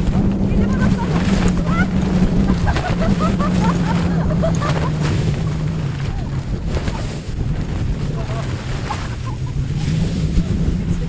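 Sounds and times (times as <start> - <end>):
low hum sinking in pitch: 0.0 - 11.0
wind buffeting microphone: 0.0 - 11.0.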